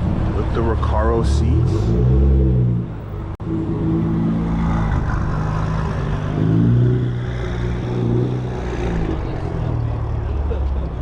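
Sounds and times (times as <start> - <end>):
car engine revving: 0.2 - 10.8.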